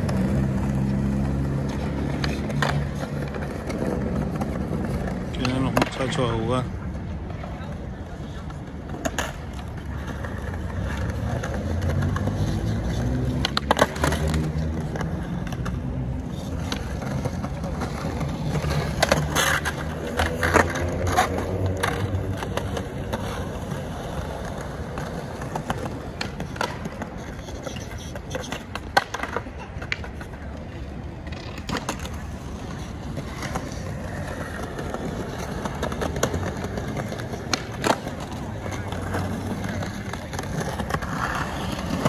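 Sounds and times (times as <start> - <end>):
skateboards clacking on ground: 0.0 - 42.0
skateboards rolling on stone: 0.0 - 42.0.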